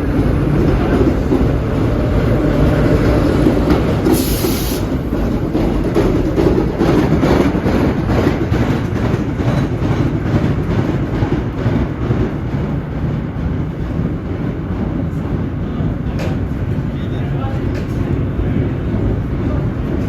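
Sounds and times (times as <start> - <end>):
subway train rumble: 0.0 - 20.0
wheels clacking over rail joints: 0.1 - 20.0.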